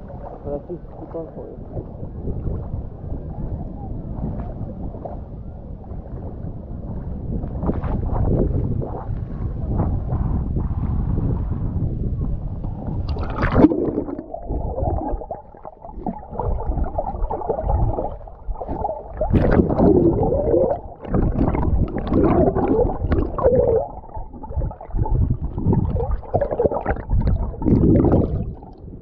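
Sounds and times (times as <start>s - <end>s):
underwater gurgling and sloshing: 0.0s - 29.0s.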